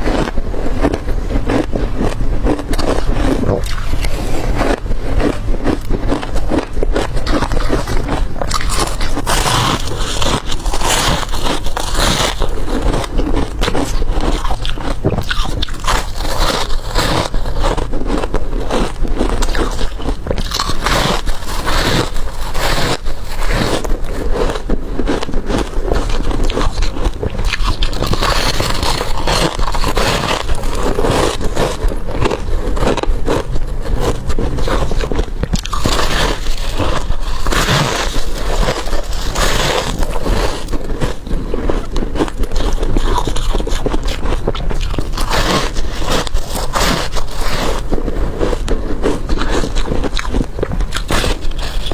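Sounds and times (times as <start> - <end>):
teeth crunching ice: 0.0 - 51.9.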